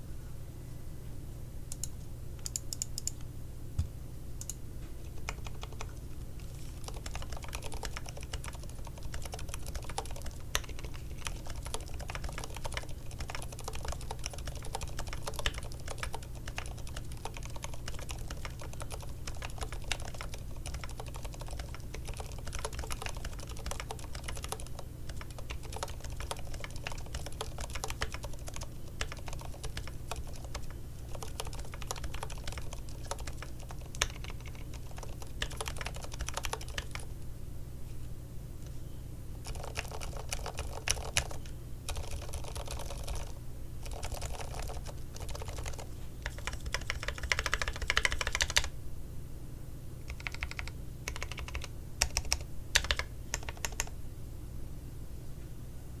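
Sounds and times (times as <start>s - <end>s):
low steady hum: 0.0s - 56.0s
keyboard typing: 1.7s - 3.2s, 4.4s - 37.2s, 39.4s - 48.7s, 50.1s - 53.9s.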